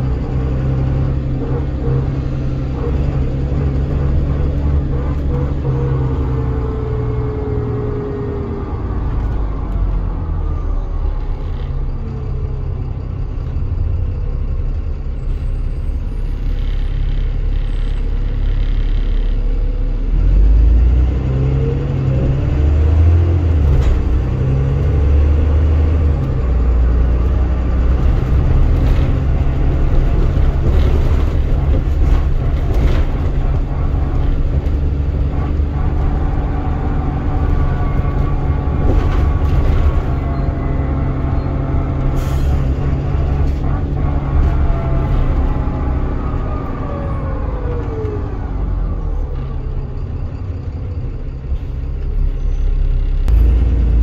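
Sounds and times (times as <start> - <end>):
bus body rattling: 0.0 - 20.0, 21.5 - 54.0
bus diesel engine: 0.0 - 54.0.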